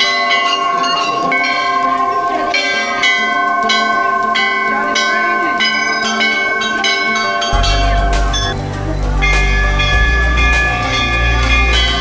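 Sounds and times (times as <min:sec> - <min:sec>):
temple bells ringing: 0:00.0 - 0:12.0.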